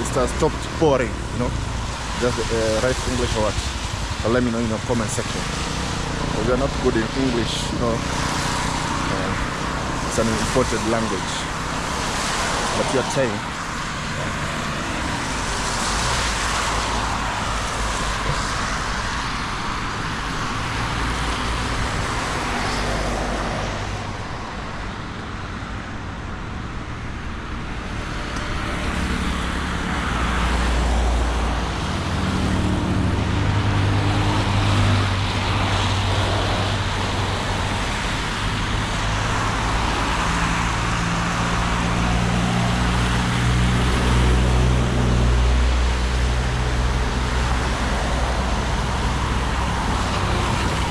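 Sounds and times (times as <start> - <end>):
tyres hissing on wet road: 0.0 - 50.9
vehicle engines passing: 0.0 - 50.9.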